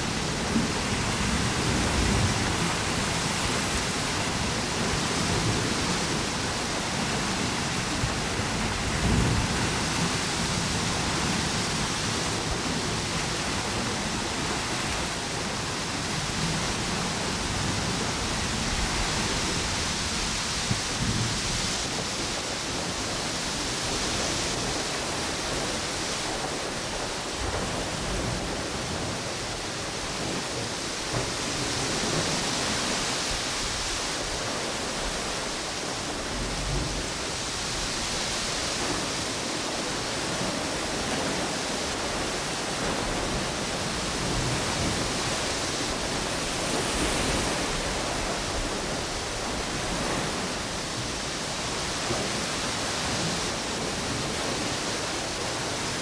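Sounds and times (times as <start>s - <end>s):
ocean waves washing onto beach: 0.0s - 56.0s
storm wind through palm trees: 0.0s - 56.0s.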